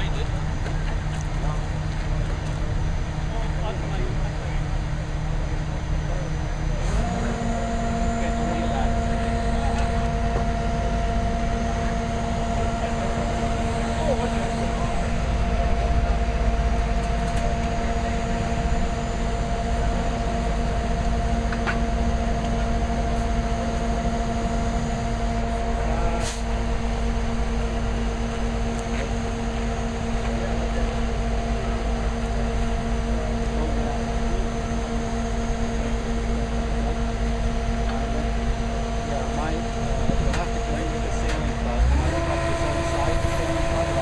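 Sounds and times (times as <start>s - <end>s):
large engine droning: 0.0s - 44.0s.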